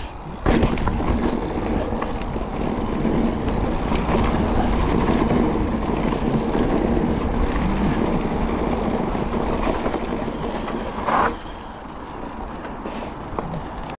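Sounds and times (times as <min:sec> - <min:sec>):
bike chain and frame rattling: 0:00.0 - 0:14.0
tyres rolling on gravel: 0:00.1 - 0:14.0
wind buffeting microphone: 0:00.3 - 0:12.6.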